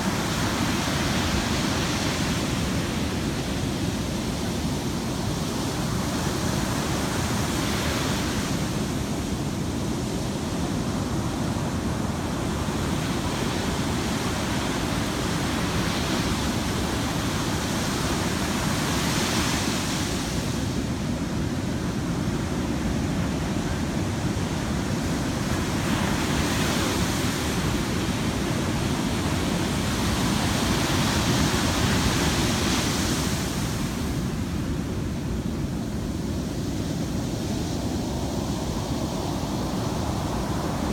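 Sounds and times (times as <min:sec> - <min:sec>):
heavy surf waves breaking: 0:00.0 - 0:40.9.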